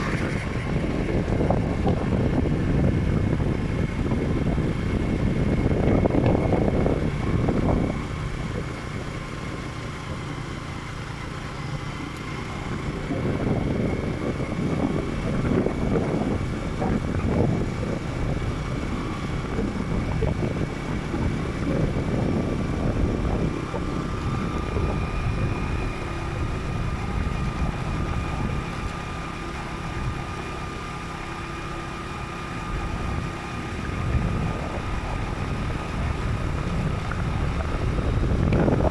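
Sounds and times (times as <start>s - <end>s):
motorcycle running: 0.0s - 38.9s
wind buffeting microphone: 0.0s - 38.9s.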